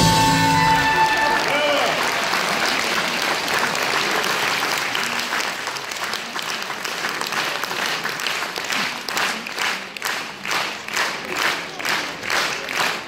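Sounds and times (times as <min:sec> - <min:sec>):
audience applauding: 0:00.0 - 0:13.0
clapping in time: 0:01.0 - 0:13.0.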